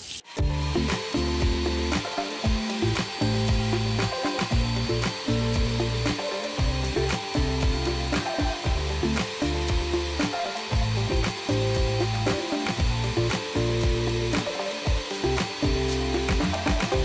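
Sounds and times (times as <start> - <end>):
blender pulsing: 0.0 - 17.0.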